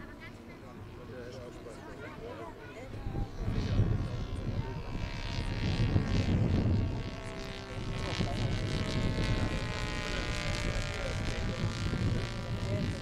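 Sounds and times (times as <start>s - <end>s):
model plane engine drone: 0.0s - 13.0s.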